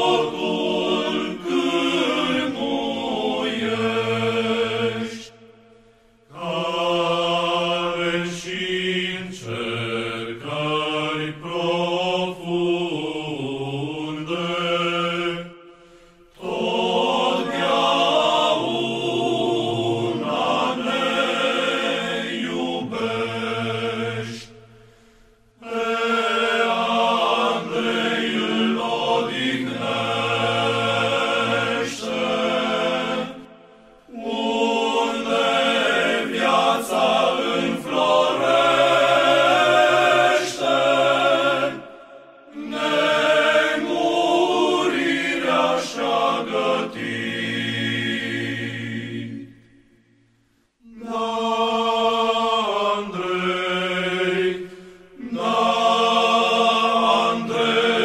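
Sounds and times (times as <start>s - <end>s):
choir chanting: 0.0s - 58.0s.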